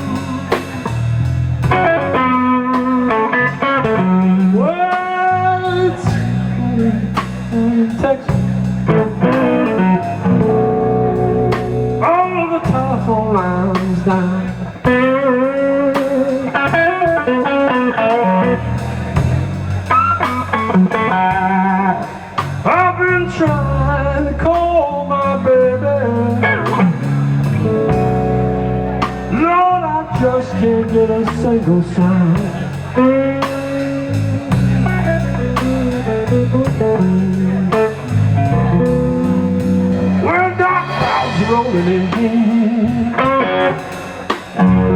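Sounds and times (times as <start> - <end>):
bass guitar: 0.0 - 44.9
electric guitar blues lead: 0.0 - 44.9
person singing: 1.9 - 19.3, 20.1 - 28.0, 29.0 - 44.9.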